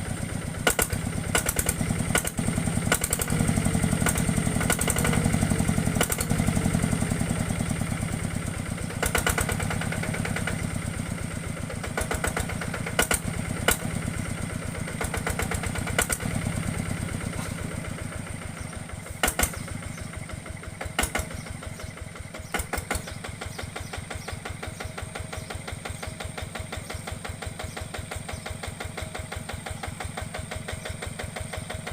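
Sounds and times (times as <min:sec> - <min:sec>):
small diesel engine chugging: 0:00.0 - 0:31.9.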